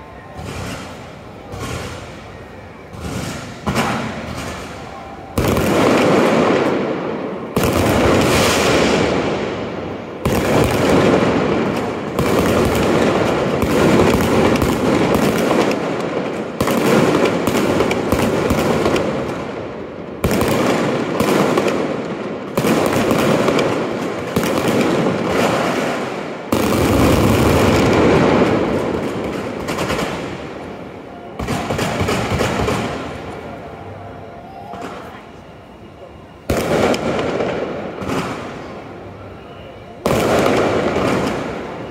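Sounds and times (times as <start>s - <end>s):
fireworks crackling: 0.0s - 35.5s, 36.3s - 41.9s
fireworks bursts: 0.0s - 41.9s.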